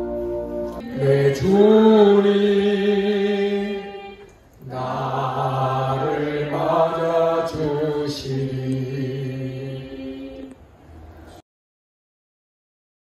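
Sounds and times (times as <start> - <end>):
slow worship singing: 0.7 - 11.4.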